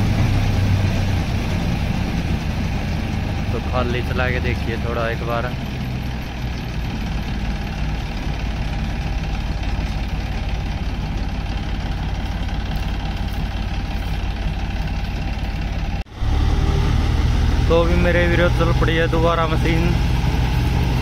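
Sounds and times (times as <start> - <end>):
reaper mechanical pulsing: 0.0 - 21.0
tractor running: 0.0 - 21.0.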